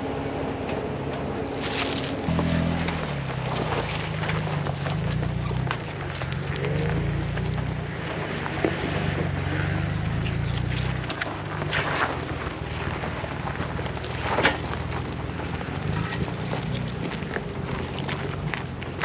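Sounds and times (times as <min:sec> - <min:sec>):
engine running at low revs: 0:00.0 - 0:19.0
rocks knocking under tyres: 0:01.5 - 0:19.0.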